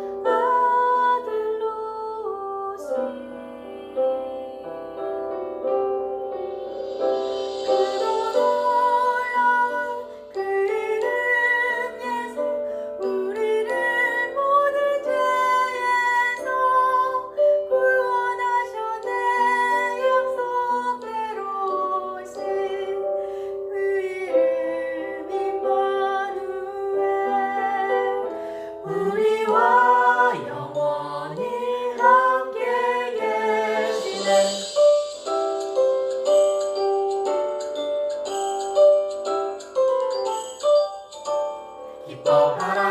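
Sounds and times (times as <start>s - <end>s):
hymn melody over backing track: 3.0s - 42.9s.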